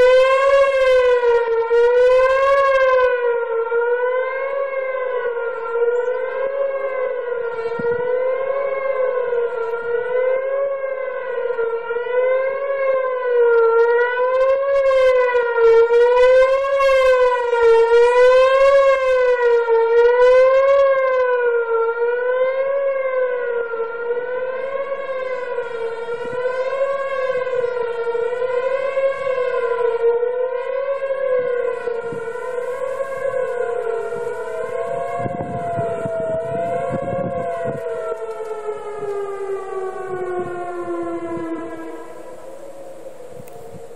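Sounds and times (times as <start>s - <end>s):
wavering warning siren: 0.0s - 43.9s.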